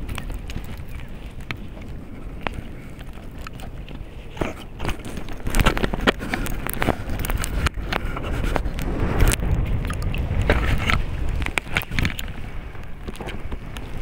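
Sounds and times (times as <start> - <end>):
fishing rod and reel clicks: 0.0 - 14.0
wind buffeting microphone: 0.0 - 14.0.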